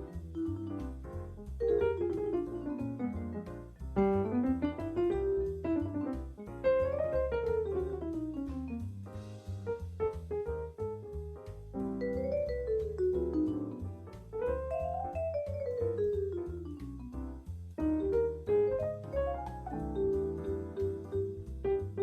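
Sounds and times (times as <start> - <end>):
jazz solo melody: 0.0 - 22.0
light drums: 0.0 - 22.0
walking bass: 0.0 - 22.0.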